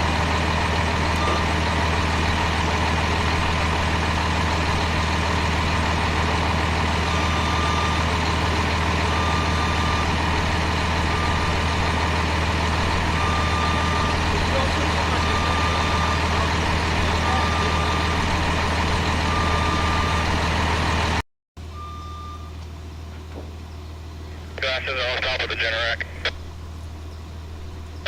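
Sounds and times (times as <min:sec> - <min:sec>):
engine droning steadily: 0:00.0 - 0:28.0.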